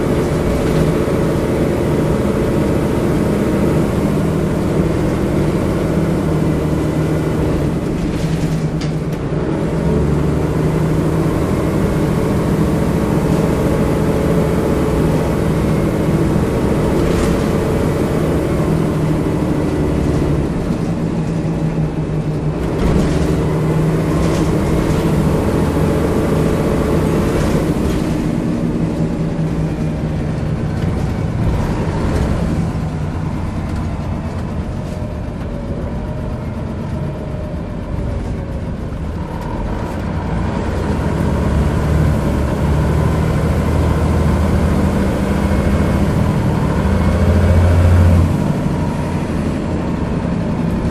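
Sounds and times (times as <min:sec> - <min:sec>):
bus engine from inside: 0:00.0 - 0:50.9.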